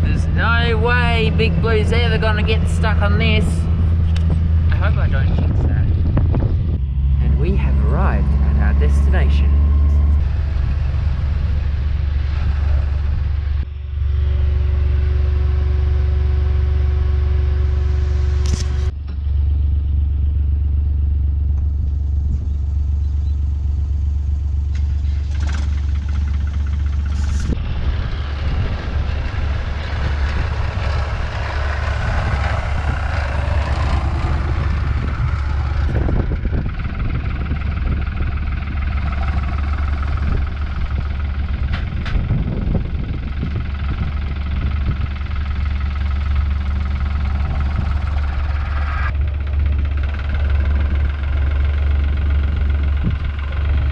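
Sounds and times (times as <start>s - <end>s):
heavy vehicle engine droning: 0.0s - 53.9s.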